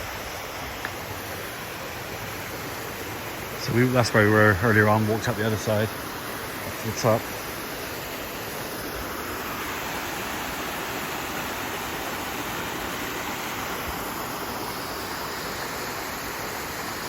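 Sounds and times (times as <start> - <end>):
fast-running stream: 0.0 - 17.0.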